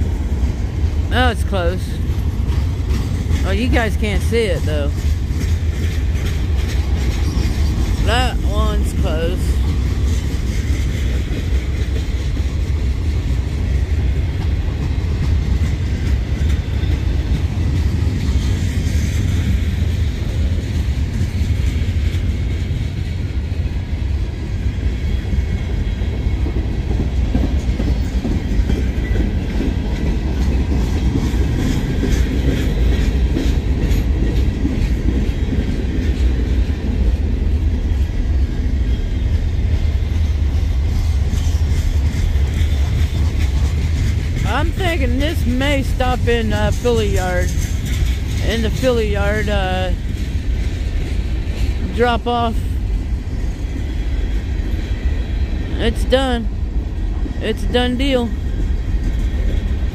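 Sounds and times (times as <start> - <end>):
freight train rumble: 0.0 - 59.9
train wheels clicking over rail joints: 1.9 - 51.9.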